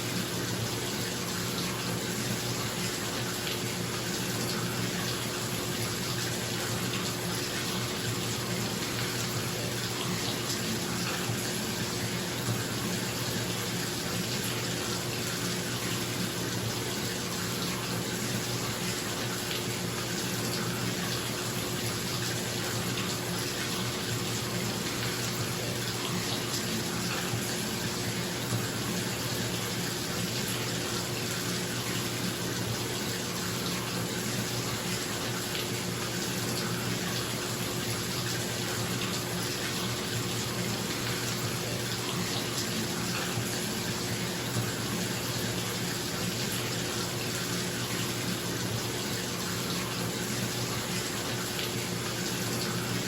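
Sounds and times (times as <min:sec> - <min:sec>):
water splashing into a bathtub: 0:00.1 - 0:53.0.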